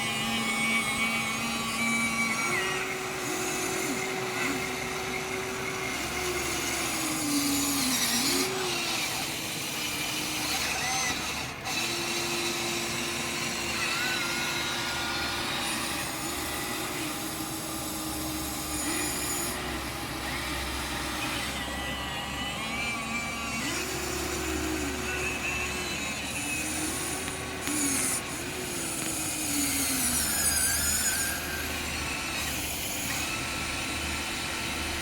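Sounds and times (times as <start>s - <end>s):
small electric motors whining: 0.0s - 35.0s.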